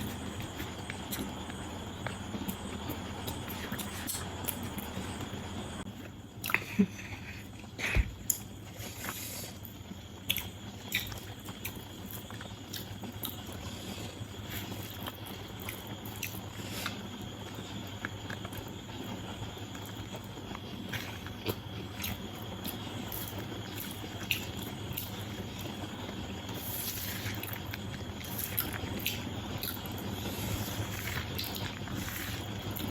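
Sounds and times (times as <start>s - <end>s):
person chewing: 0.0s - 5.4s, 8.2s - 18.8s, 19.8s - 32.9s
low background hum: 0.0s - 32.9s.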